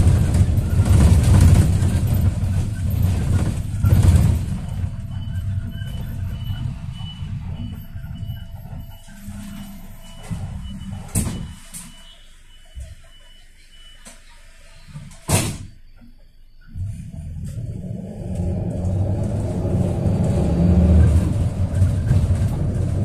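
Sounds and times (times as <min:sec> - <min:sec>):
bus engine and road rumble: 0:00.0 - 0:12.2, 0:16.7 - 0:23.0.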